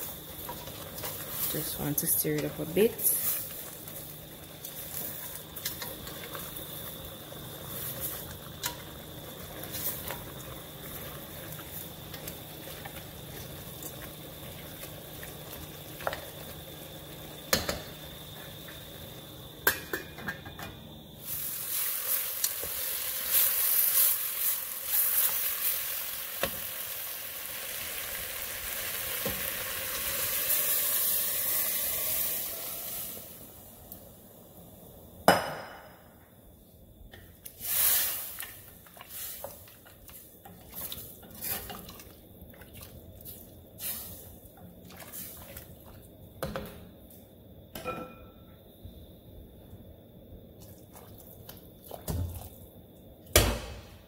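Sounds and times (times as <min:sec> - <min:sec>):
meat sizzling in a pot: 0:00.0 - 0:35.3, 0:37.4 - 0:46.1.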